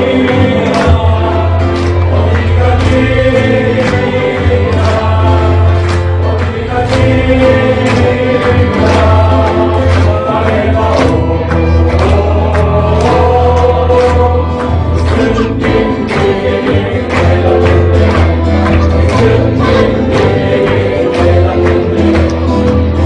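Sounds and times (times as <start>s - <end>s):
bass line: 0.0s - 23.0s
men's group singing gospel: 0.0s - 23.0s.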